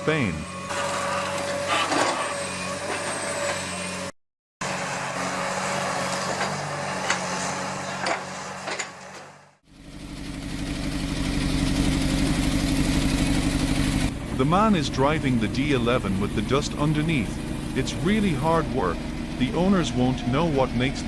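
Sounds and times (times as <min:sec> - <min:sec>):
heavy diesel machinery engine: 0:00.0 - 0:21.0.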